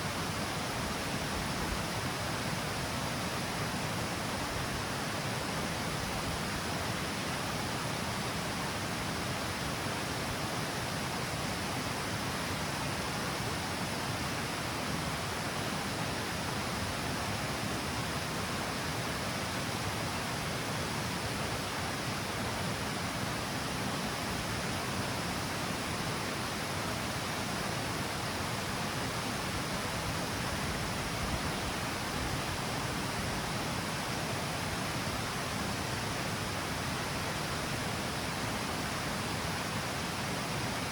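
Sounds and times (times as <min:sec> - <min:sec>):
water rushing over cascade: 0:00.0 - 0:40.9.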